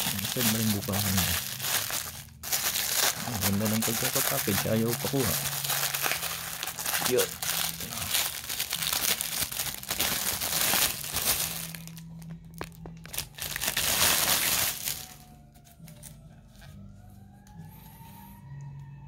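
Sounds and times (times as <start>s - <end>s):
plastic wrapping crinkling: 0.0s - 16.1s.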